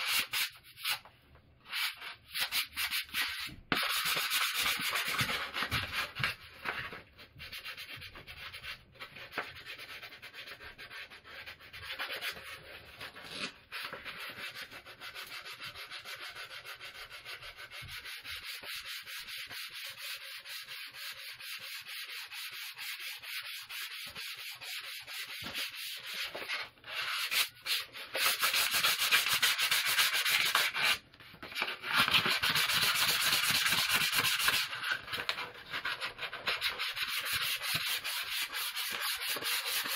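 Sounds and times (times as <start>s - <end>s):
sandpaper rubbing wood: 0.0s - 6.2s, 7.5s - 31.0s, 31.8s - 39.9s.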